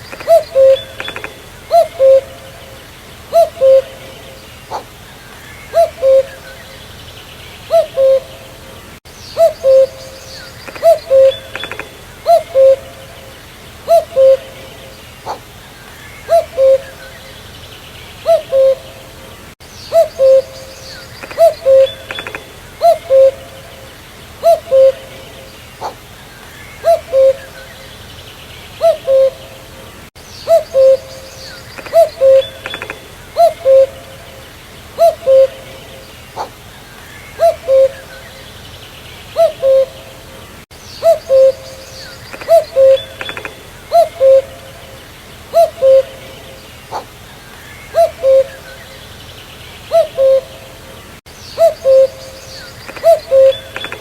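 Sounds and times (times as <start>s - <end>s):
cuckoo calling: 0.0s - 7.0s, 7.6s - 17.5s, 18.2s - 28.0s, 28.8s - 38.6s, 39.3s - 49.2s, 49.9s - 50.8s, 51.4s - 54.0s
faint birds chirping: 0.0s - 54.0s.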